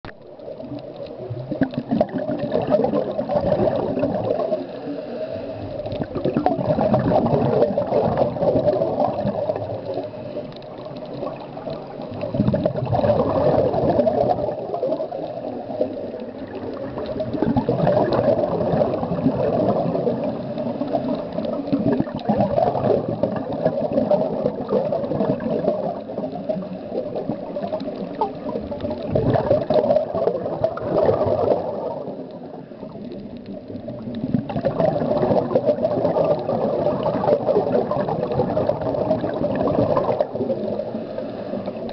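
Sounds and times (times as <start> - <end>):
underwater bubbles rushing: 0.1 - 41.9.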